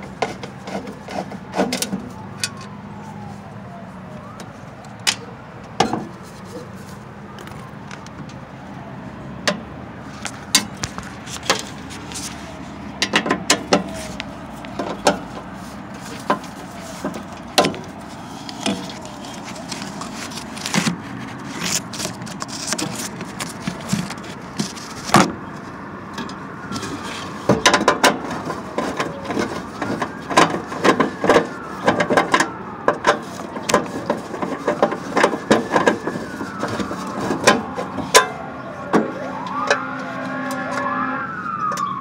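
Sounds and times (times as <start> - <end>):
emergency siren wailing: 0.2 - 10.1, 11.5 - 42.0.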